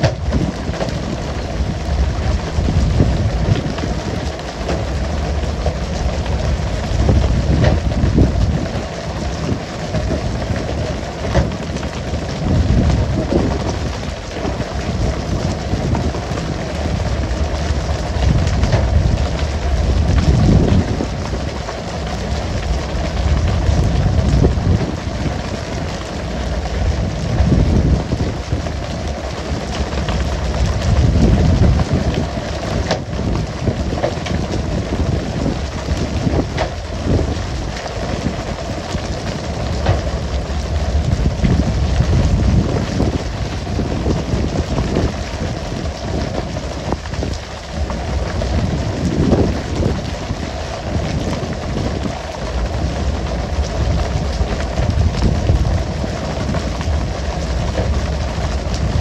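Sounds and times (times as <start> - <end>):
low rumble: 0.0 - 59.0.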